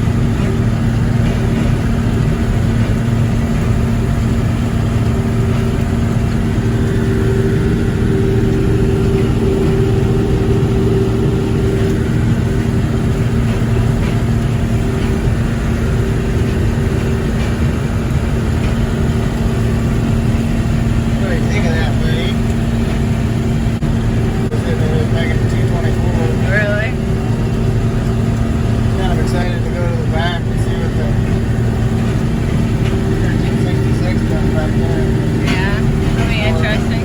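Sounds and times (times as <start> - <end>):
farm machinery engine running: 0.0 - 37.0.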